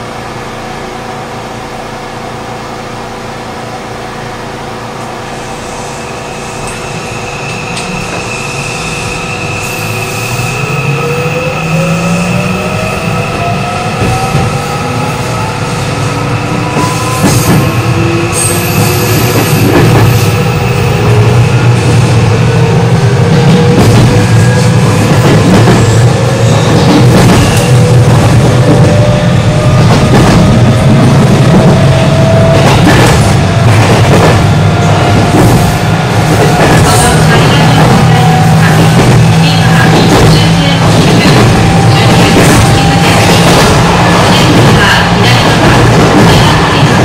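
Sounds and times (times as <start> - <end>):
train wheels rumbling: 4.0 - 47.0.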